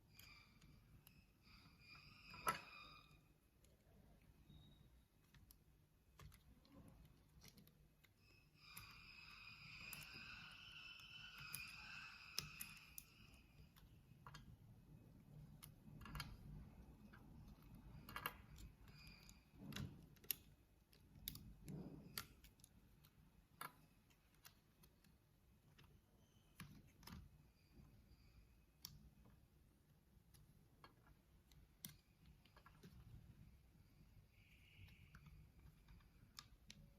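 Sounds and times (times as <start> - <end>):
keyboard parts clicking: 0.0 - 36.9.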